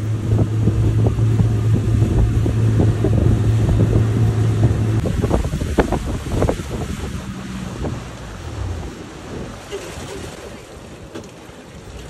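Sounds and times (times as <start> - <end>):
boat engine humming: 0.0 - 12.0
rushing wake water: 0.0 - 12.0
wind buffeting microphone: 0.0 - 12.0.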